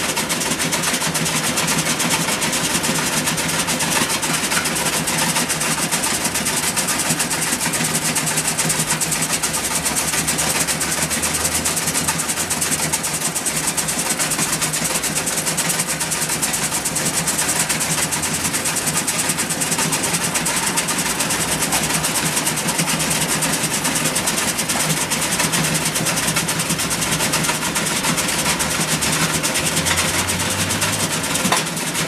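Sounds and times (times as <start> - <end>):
gravel pouring: 0.2 - 32.0.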